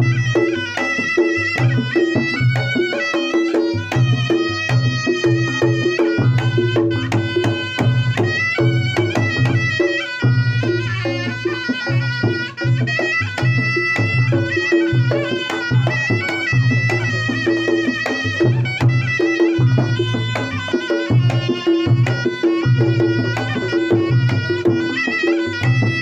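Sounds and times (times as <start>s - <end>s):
shawm melody: 0.0s - 26.0s.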